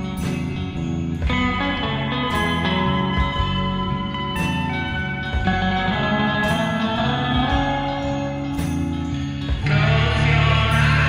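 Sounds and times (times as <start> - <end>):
rock band music: 0.0 - 11.0.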